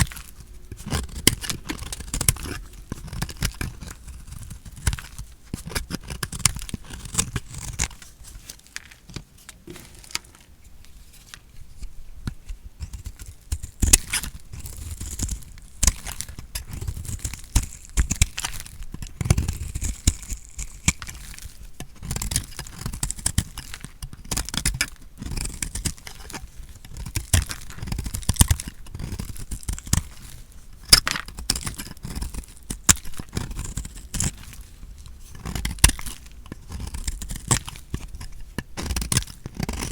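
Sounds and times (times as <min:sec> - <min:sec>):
knife cutting dry soap: 0:00.0 - 0:39.9.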